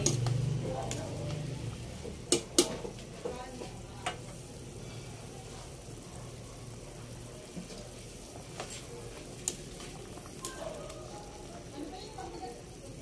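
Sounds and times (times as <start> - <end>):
broth bubbling in a pot: 0.0 - 13.0.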